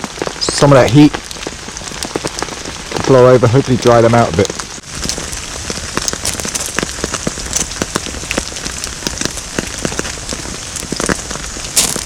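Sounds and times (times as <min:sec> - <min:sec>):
rain drops ticking: 0:00.0 - 0:12.0.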